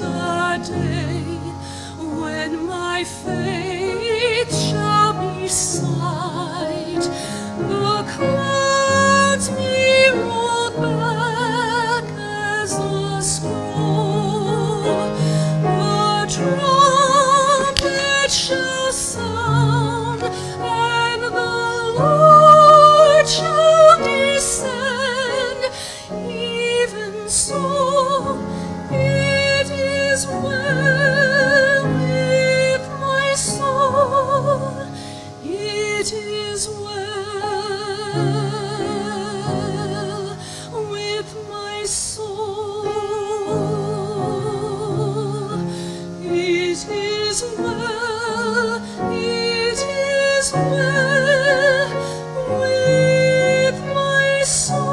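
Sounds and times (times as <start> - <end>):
grand piano: 0.0 - 54.9
woman singing with vibrato: 0.0 - 54.9.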